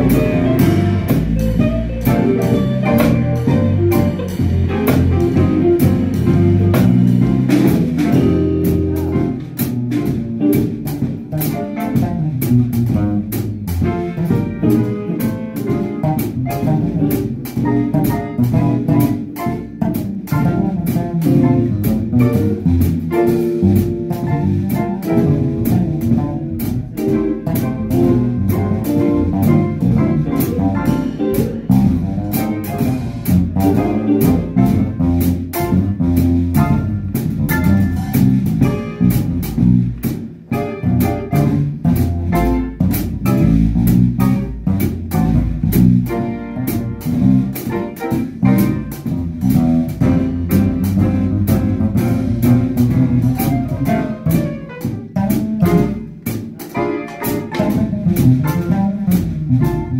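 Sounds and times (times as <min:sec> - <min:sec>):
acoustic piano: 0:00.0 - 0:59.9
plucked bass line: 0:00.0 - 0:59.9.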